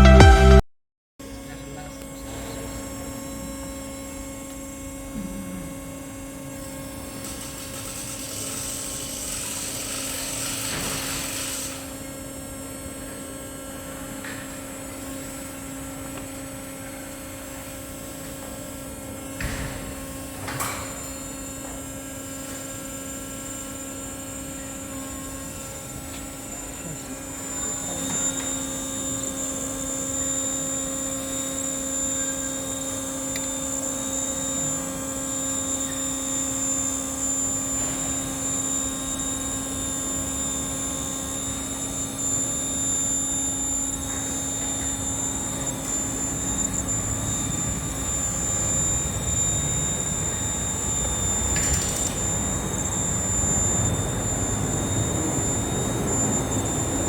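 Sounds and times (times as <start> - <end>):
machinery hum with whine: 1.2 - 57.0.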